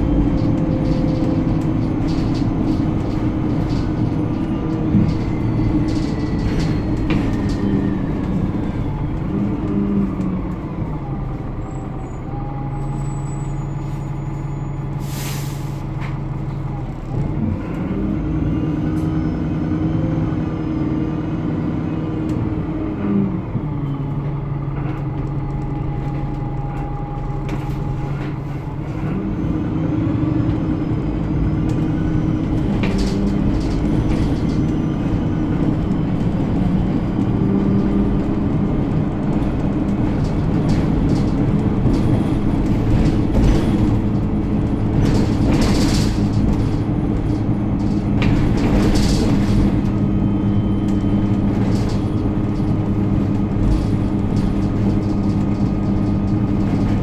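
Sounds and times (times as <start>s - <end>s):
bus body squeals and rattles: 0.0s - 57.0s
bus engine drone: 0.0s - 57.0s.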